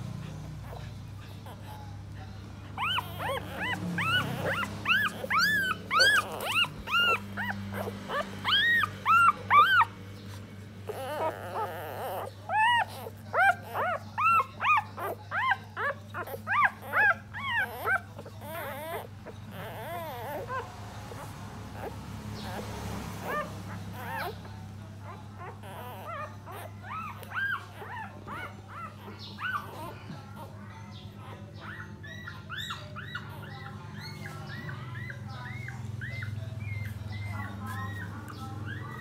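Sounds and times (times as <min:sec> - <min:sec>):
puppies squeaking and whimpering: 0:00.0 - 0:39.0.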